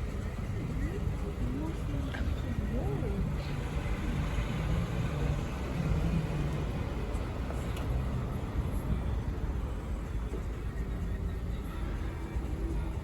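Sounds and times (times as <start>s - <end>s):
low rumble of vehicle noise: 0.0s - 13.0s.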